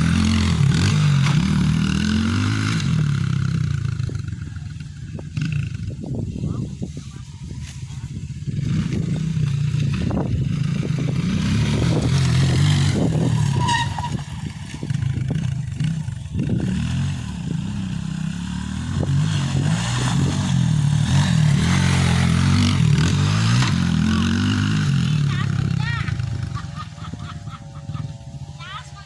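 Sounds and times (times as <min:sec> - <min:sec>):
dirt bike engine revving: 0:00.0 - 0:06.3, 0:08.4 - 0:29.0.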